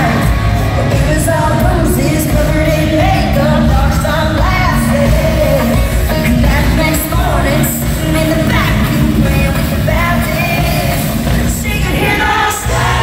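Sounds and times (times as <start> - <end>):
female lead vocal: 0.0 - 13.0
live country-pop band playing: 0.0 - 13.0.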